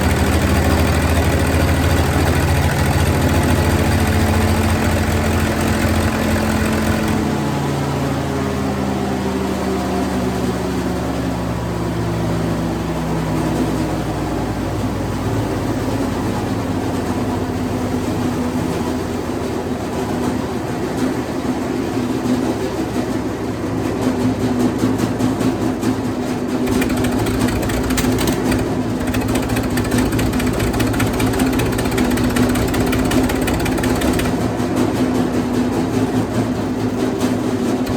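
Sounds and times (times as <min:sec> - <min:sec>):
wood chipper engine running: 0:00.0 - 0:37.9.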